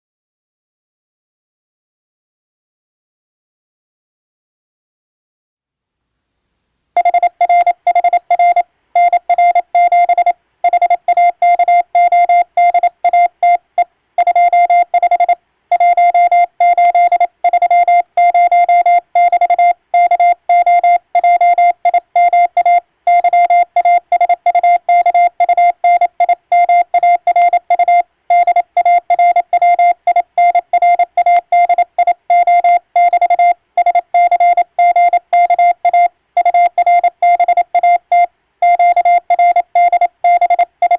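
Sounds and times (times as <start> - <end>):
morse code beeps: 7.0 - 40.9.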